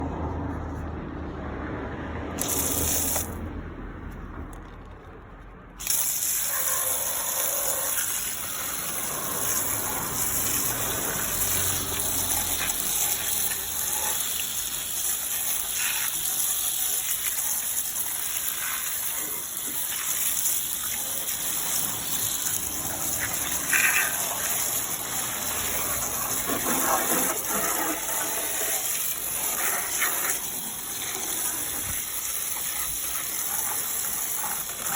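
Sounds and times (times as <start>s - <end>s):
water spraying onto engine bay: 2.4s - 5.0s, 5.8s - 34.9s.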